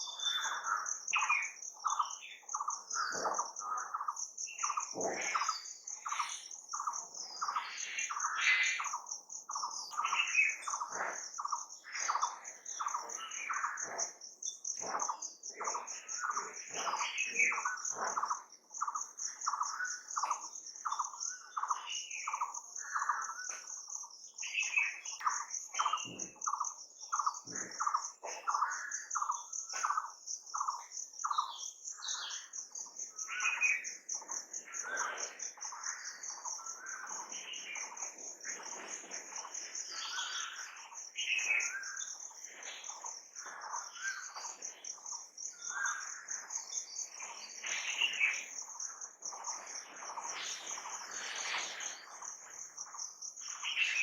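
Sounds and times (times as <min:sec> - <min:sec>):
high pulsing insect trill: 0:00.0 - 0:54.0
wild birds calling and chirping: 0:00.0 - 0:54.0.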